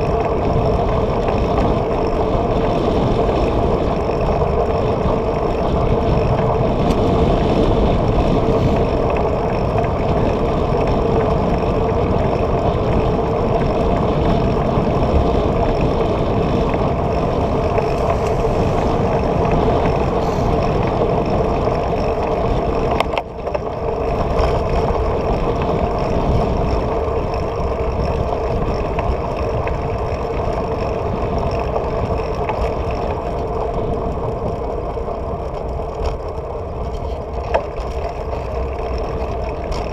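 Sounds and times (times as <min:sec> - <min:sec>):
tyre noise on asphalt: 0:00.0 - 0:39.9
wind rush on microphone: 0:00.0 - 0:39.9.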